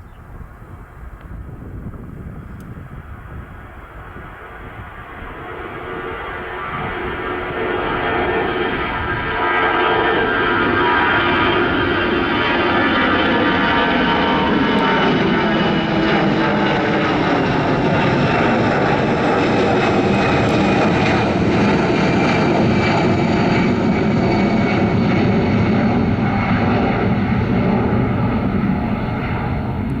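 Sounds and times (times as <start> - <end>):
airliner engines passing: 0.2 - 30.0.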